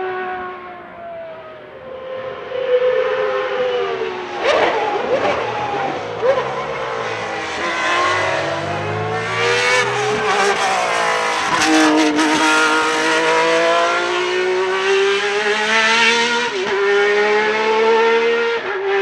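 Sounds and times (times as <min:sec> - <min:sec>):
racing car engine passing: 0:00.0 - 0:19.0.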